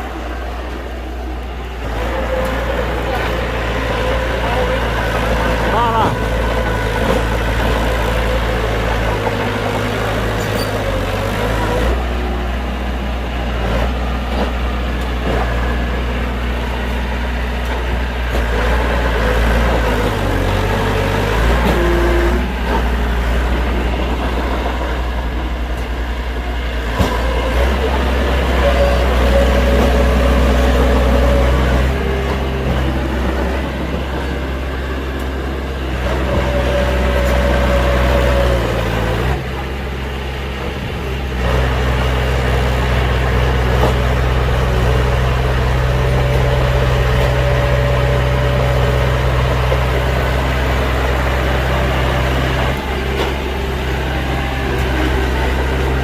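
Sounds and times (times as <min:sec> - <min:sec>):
heavy diesel engines running: 0:00.0 - 0:56.0.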